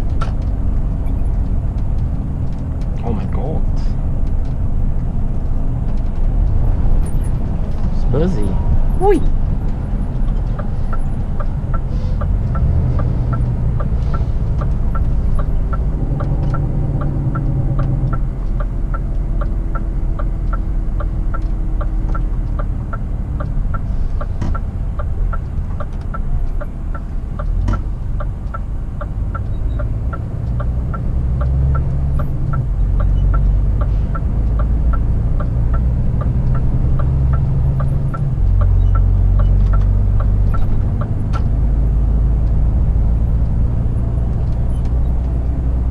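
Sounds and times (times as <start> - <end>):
diesel truck engine droning: 0.0 - 45.9
turn signal ticking: 0.0 - 45.9.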